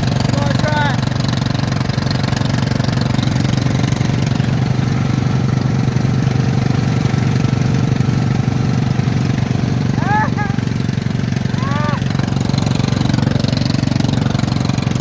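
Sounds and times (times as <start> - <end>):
riding lawn mower engine running: 0.0 - 15.0.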